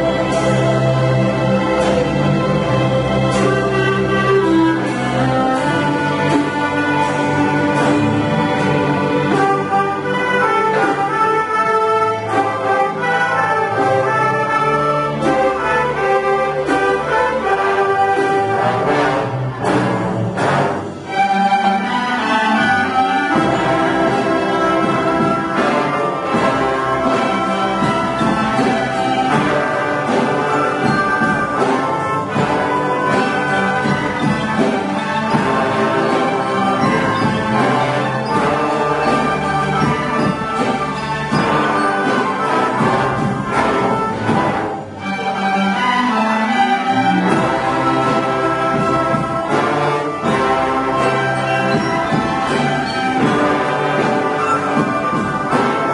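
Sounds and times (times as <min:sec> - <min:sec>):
orchestral brass chords: 0:00.0 - 0:55.9.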